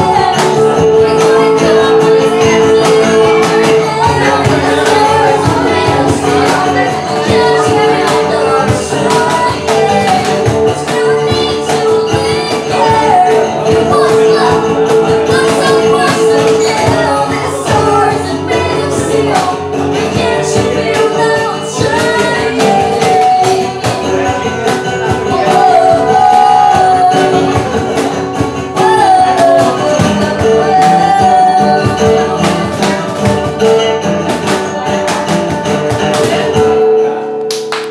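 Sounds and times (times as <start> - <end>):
woman singing: 0.0 - 36.8
acoustic guitar strumming: 0.0 - 37.9
cajon beat: 0.0 - 37.9
electric guitar: 0.0 - 37.9.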